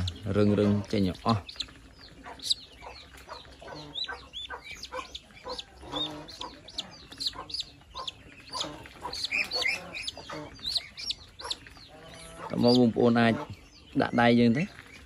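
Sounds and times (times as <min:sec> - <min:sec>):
ducklings peeping: 0:00.0 - 0:15.0
low clucking calls: 0:00.0 - 0:15.0.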